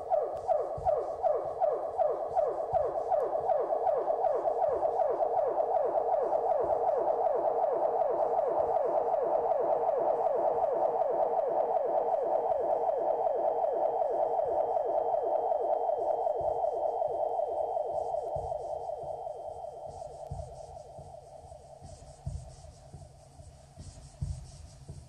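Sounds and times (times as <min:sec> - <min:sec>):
electronic synthesizer music: 0:00.0 - 0:22.5.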